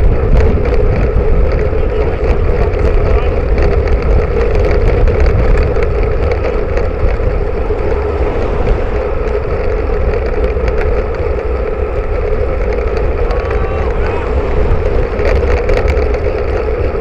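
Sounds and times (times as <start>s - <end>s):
road noise rumble: 0.0s - 17.0s
wind noise on microphone: 0.0s - 17.0s.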